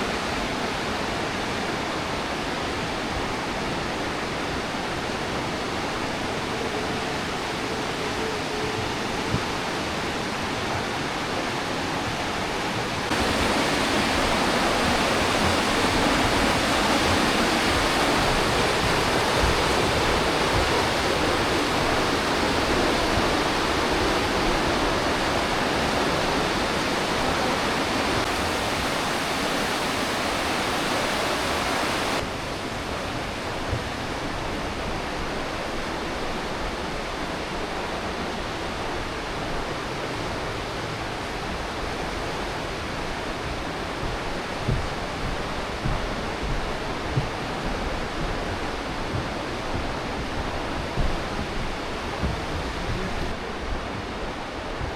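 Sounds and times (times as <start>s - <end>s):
river rushing through gorge: 0.0s - 54.9s.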